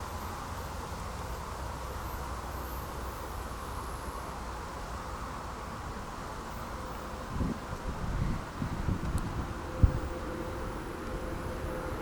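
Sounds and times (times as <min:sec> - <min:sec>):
distant freight train rumble: 0:00.0 - 0:12.0.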